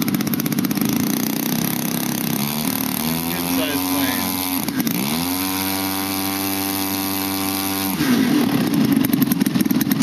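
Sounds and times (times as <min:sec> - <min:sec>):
model plane engine running: 0:00.0 - 0:10.0.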